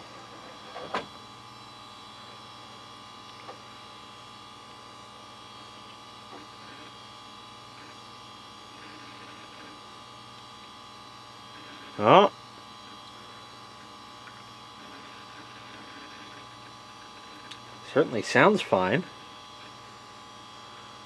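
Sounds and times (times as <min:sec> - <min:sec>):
computer fans humming: 0:00.0 - 0:21.0.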